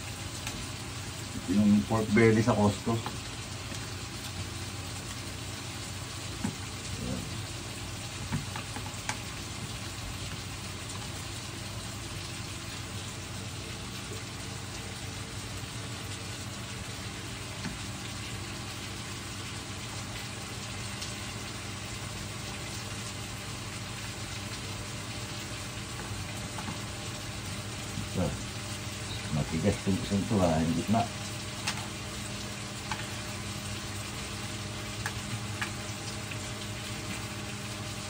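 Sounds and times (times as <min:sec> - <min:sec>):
electric fan humming: 0:00.0 - 0:38.0
meat sizzling in a pan: 0:00.0 - 0:38.0.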